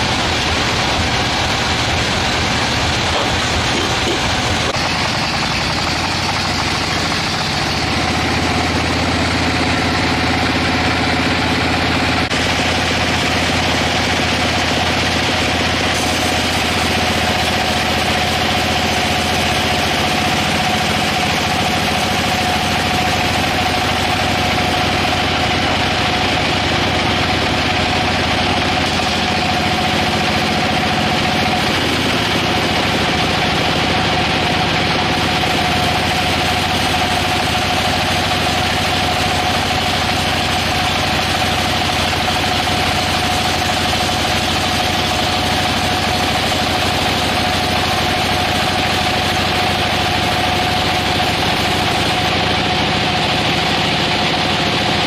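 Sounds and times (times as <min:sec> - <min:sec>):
sawmill machinery whining: 0:00.0 - 0:55.0.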